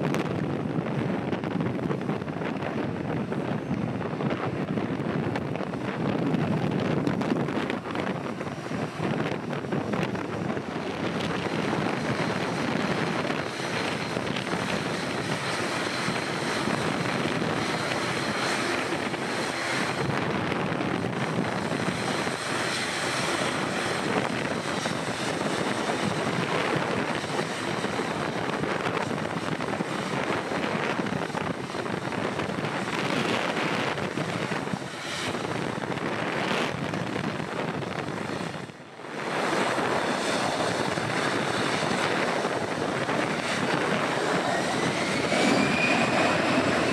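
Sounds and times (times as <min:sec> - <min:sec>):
faint high engine whine: 0:00.0 - 0:46.9
jet engines roaring: 0:00.0 - 0:46.9.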